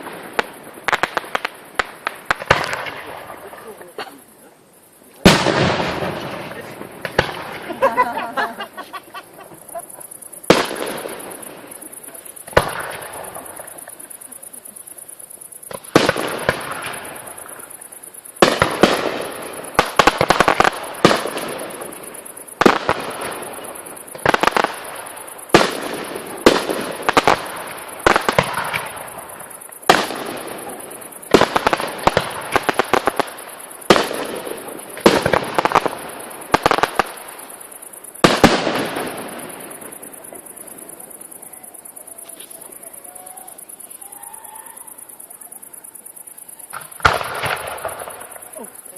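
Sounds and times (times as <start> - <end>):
fireworks bursting with echoing bangs: 0.0 - 4.1, 5.2 - 45.0, 46.6 - 48.9
rapid fireworks crackling: 0.0 - 48.9.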